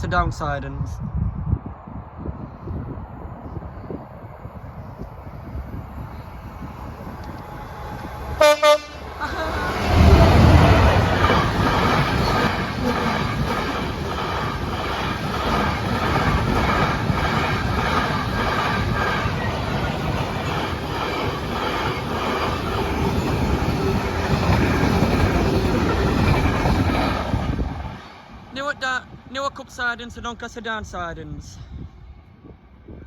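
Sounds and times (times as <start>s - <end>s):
freight train wheels on rails: 3.0s - 30.7s.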